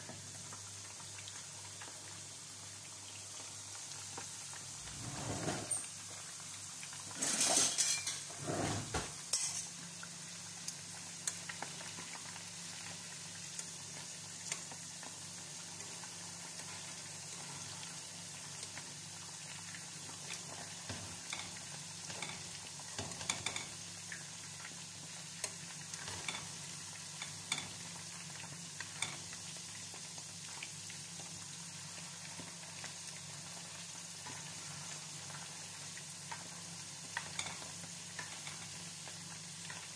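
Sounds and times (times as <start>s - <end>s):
potatoes sizzling in oil: 0.0s - 39.9s.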